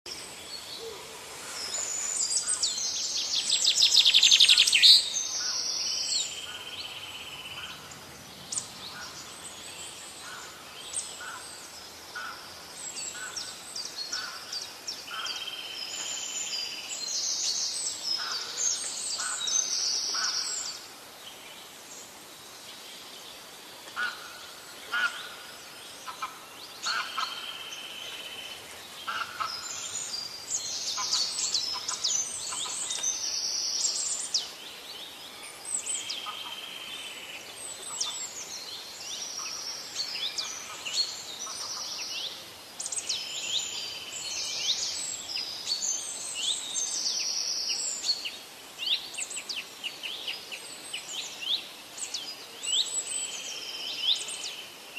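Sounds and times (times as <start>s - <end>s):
birds calling: 0.1s - 22.2s, 23.4s - 54.7s.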